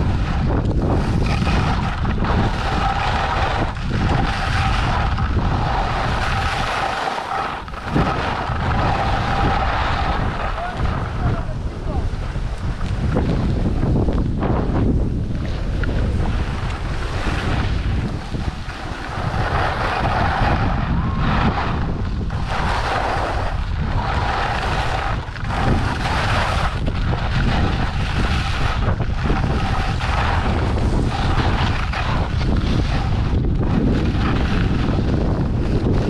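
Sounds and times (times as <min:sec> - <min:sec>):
skis scraping over snow: 0:00.0 - 0:36.0
wind rumble on microphone: 0:00.0 - 0:36.0.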